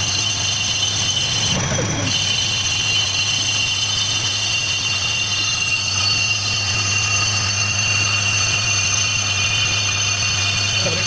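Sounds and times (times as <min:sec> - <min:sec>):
high-pitched ringing from cutting: 0:00.0 - 0:11.0
lathe humming: 0:00.0 - 0:11.0.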